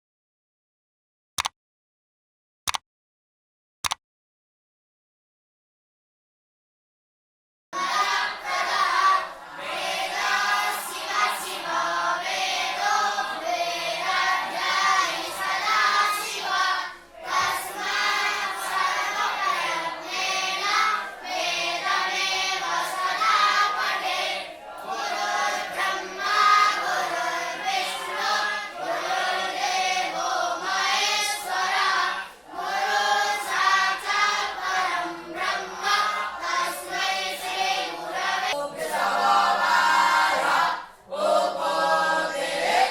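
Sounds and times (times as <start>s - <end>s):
young voices chanting in unison: 7.8s - 42.9s.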